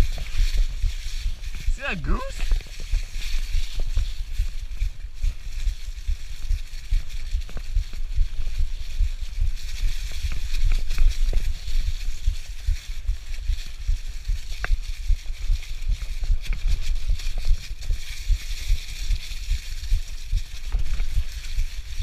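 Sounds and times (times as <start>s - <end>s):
tyres crunching through dry leaves: 0.0s - 22.0s.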